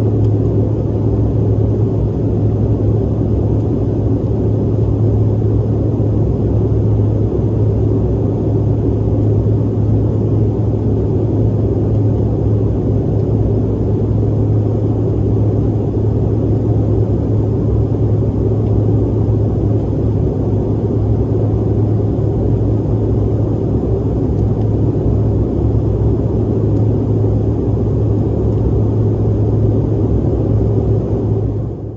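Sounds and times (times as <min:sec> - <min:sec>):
airliner cabin rumble: 0:00.0 - 0:31.9.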